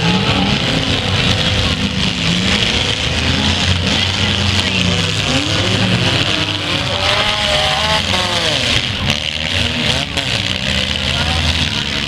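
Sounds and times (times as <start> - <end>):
car engine revving: 0.0 - 12.0
car engines running loudly: 0.0 - 12.0.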